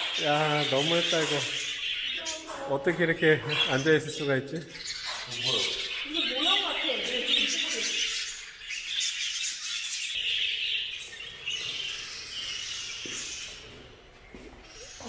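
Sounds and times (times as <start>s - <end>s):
flock of budgerigars chattering: 0.0s - 15.0s.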